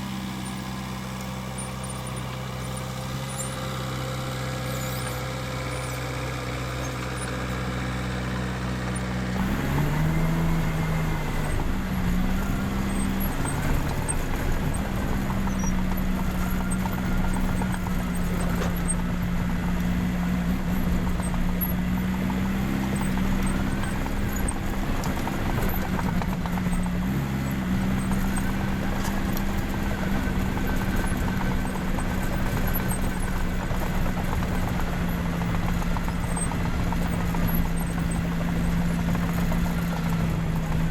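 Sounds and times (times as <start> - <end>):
dozer diesel engine revving: 0.0 - 40.9.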